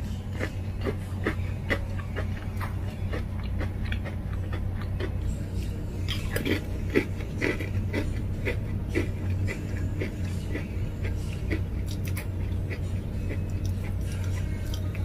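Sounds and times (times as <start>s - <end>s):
chips crunching: 0.0s - 15.0s
steady low hum: 0.0s - 15.0s.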